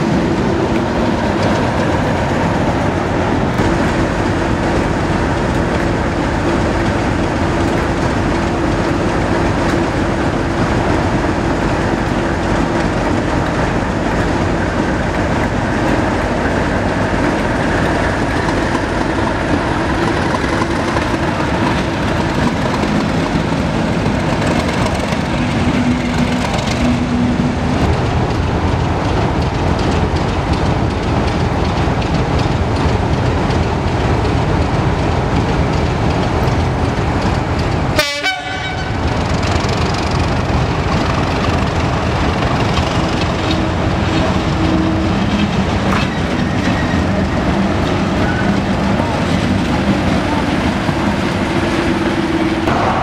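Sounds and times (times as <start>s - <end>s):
diesel locomotive engine: 0.0s - 53.0s.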